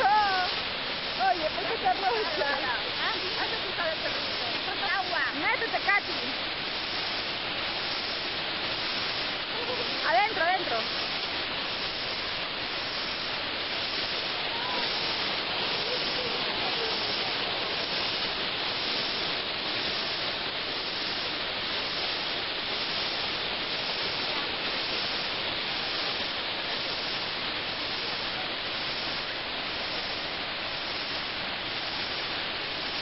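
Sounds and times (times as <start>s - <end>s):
waterfall pouring: 0.0s - 33.0s.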